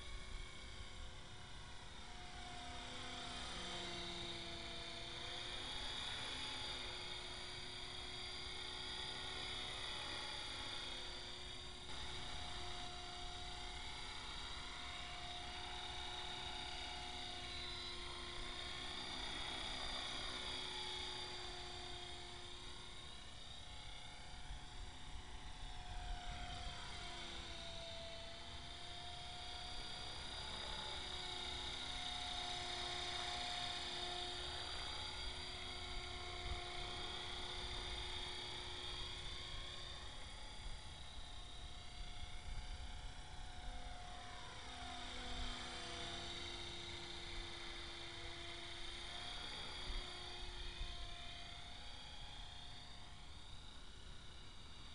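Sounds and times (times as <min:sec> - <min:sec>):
electric motor whine: 0:00.0 - 0:54.9.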